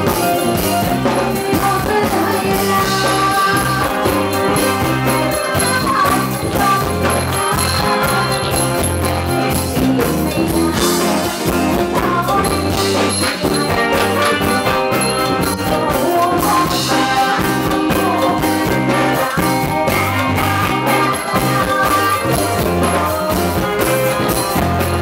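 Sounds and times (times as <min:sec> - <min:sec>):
live band playing dance song: 0:00.0 - 0:25.0
person singing: 0:00.0 - 0:25.0.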